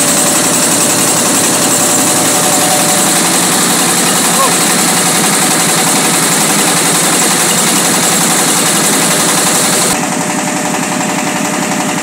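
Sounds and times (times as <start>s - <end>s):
rice mill mechanical clatter: 0.0s - 12.0s.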